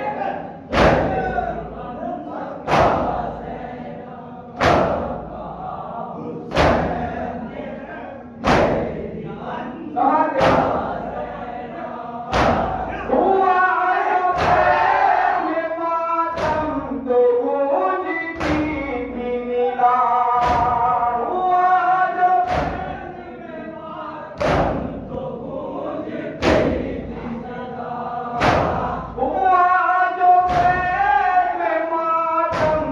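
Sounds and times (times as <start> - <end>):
men chanting: 0.0 - 32.9.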